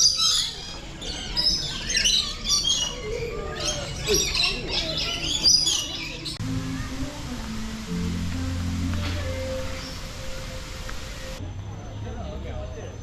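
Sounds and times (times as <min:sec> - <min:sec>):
birds chirping and squawking: 0:00.0 - 0:11.4.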